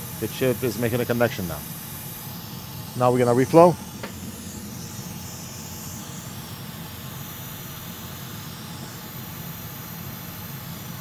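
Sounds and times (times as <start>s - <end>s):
hot air blower hissing: 0.0s - 11.0s.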